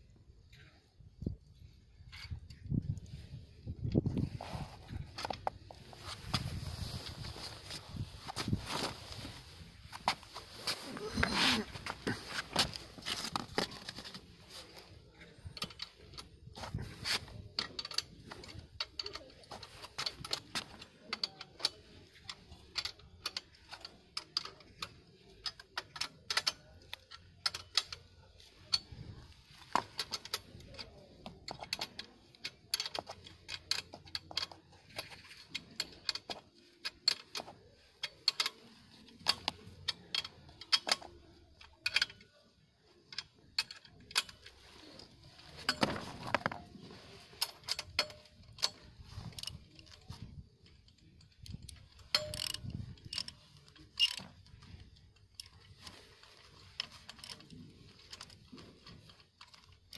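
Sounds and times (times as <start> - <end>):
metal parts and tools clinking: 0.5 - 59.9.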